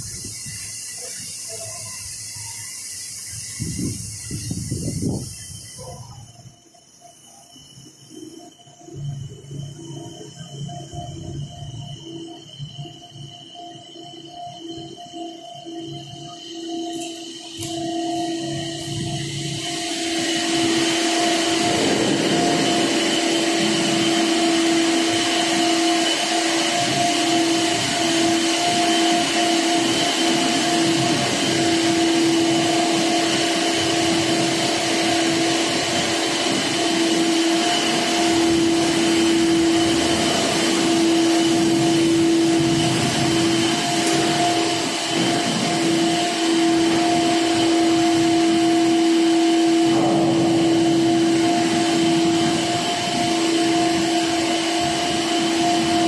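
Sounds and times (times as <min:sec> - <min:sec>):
constant whining tones: 0:00.0 - 0:56.0
ship machinery droning: 0:00.0 - 0:56.0.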